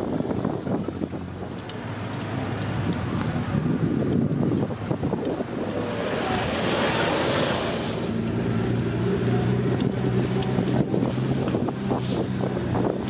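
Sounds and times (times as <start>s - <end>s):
car engine at low revs: 0.0s - 13.0s
car passing close: 1.4s - 12.4s.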